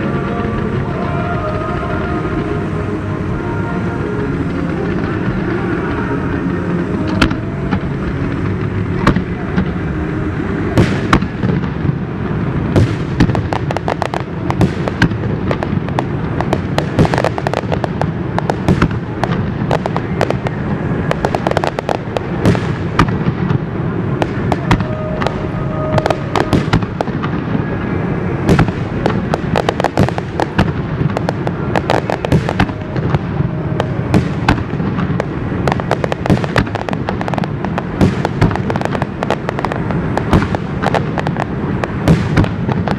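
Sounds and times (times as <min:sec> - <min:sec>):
fireworks bangs and crackles: 0:00.0 - 0:42.9
rumble of booms: 0:00.0 - 0:42.9.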